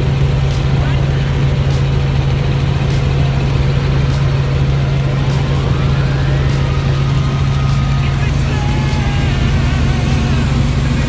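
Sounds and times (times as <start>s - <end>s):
faint whine: 0.0s - 11.0s
helicopter drone: 0.0s - 11.0s.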